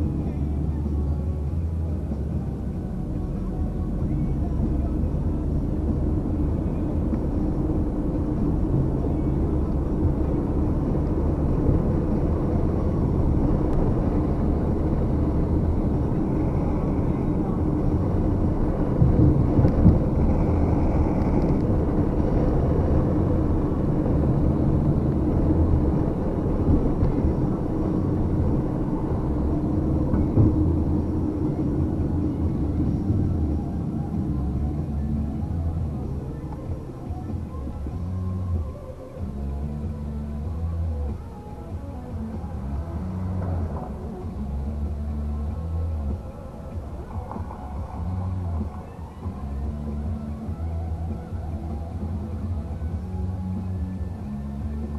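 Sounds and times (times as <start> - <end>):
muffled low rumble: 0.0 - 54.9.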